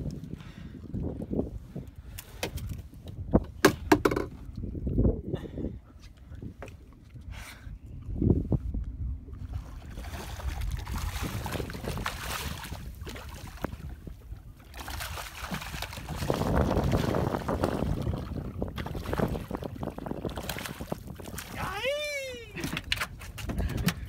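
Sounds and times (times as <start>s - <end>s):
water around a boat: 0.0s - 24.0s
wind buffeting microphone: 0.0s - 24.0s.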